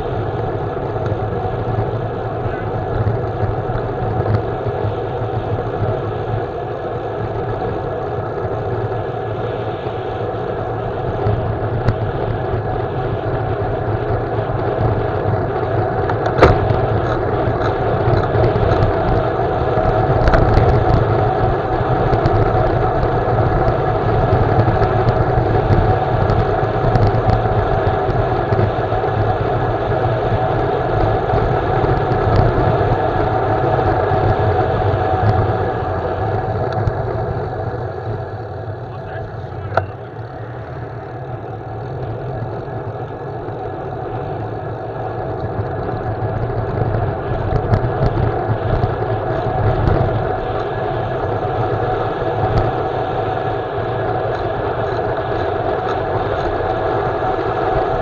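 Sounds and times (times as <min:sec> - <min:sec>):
tyre noise on asphalt: 0:00.0 - 0:58.0
wind rush over microphone: 0:00.0 - 0:58.0.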